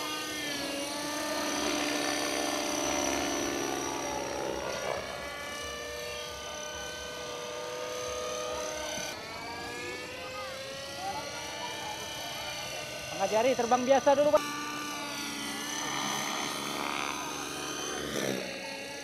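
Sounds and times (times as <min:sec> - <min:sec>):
model helicopter rotor whine: 0:00.0 - 0:19.0.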